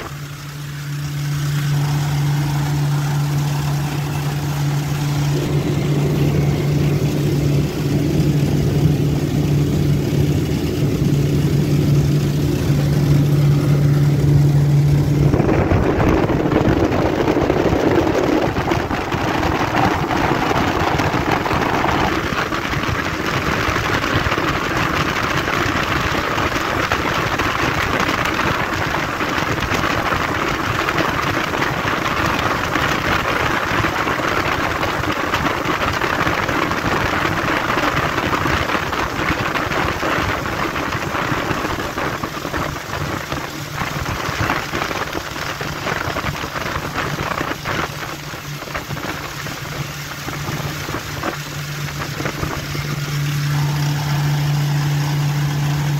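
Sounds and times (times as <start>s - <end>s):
motorboat engine: 0.0s - 55.9s
water against hull: 0.0s - 55.9s
wind: 0.0s - 55.9s.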